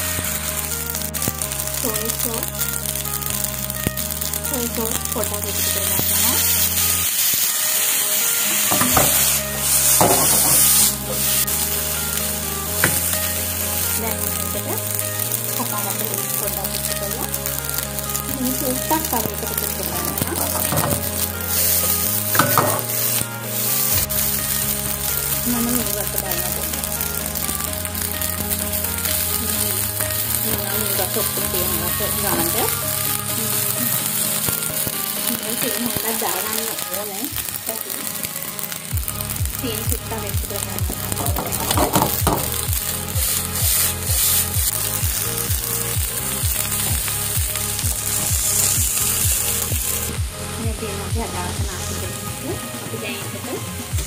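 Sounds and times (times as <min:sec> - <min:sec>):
spatula stirring in a wok: 0:00.0 - 0:50.2
fried rice sizzling in a wok: 0:00.0 - 0:54.0.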